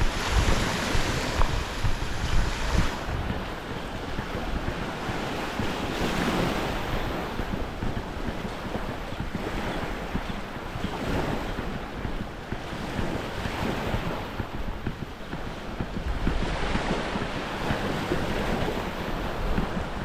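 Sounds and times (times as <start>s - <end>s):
surf washing onto beach: 0.0s - 20.0s
wind buffeting microphone: 0.0s - 20.0s.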